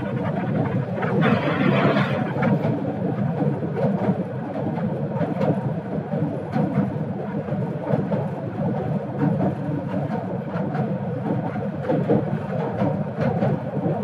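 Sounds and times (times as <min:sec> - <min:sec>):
train wheels rumbling on bridge: 0:00.0 - 0:14.0.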